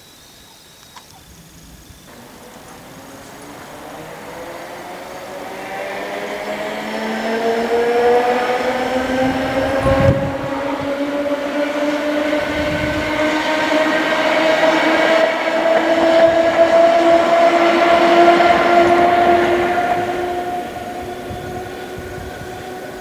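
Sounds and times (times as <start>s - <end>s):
electric locomotive motor whine: 0.0s - 23.0s
train rolling noise: 0.8s - 23.0s.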